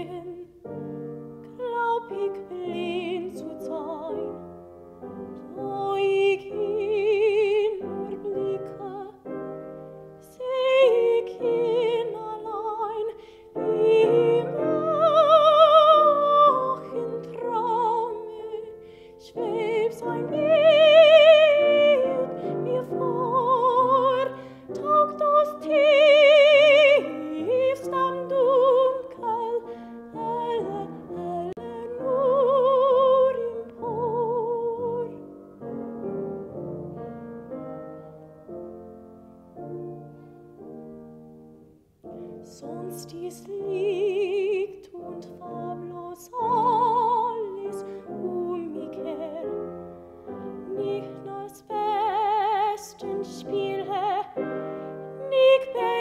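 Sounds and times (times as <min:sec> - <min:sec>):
woman singing operatically: 0:00.0 - 0:00.6, 0:01.6 - 0:04.4, 0:05.4 - 0:09.3, 0:10.2 - 0:35.3, 0:42.4 - 0:49.7, 0:50.6 - 0:56.0
piano accompaniment: 0:00.0 - 0:56.0.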